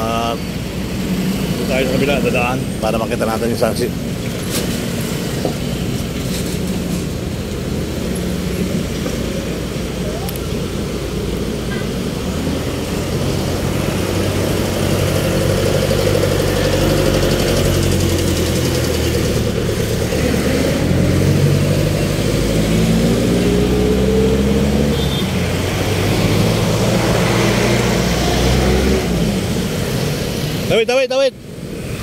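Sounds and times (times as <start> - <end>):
vehicle accelerating: 0.0 - 30.7
vehicle engines rumbling: 0.0 - 32.0.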